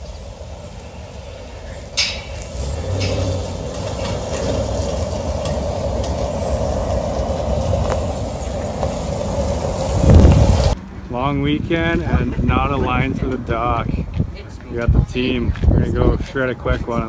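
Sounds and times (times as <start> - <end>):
truck engine and tyres rumbling: 0.0 - 17.0.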